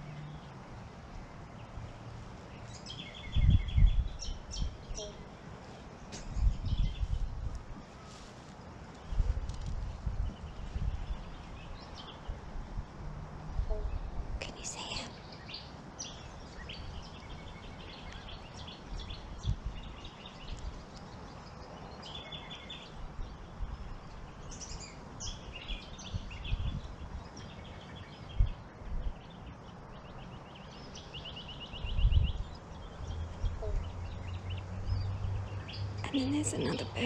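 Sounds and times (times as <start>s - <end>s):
small birds chirping and trilling: 1.5s - 7.5s, 8.9s - 12.5s, 13.7s - 37.0s.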